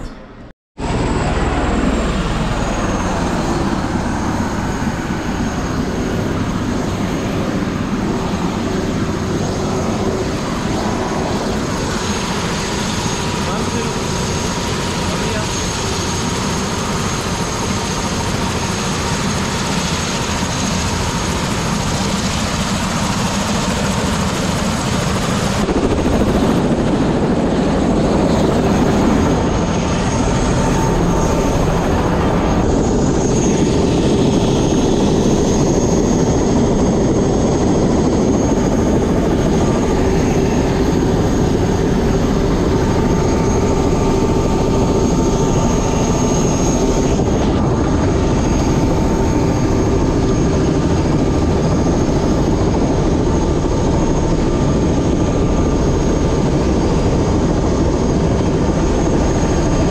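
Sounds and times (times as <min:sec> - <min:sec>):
helicopter running: 0:00.0 - 0:59.9.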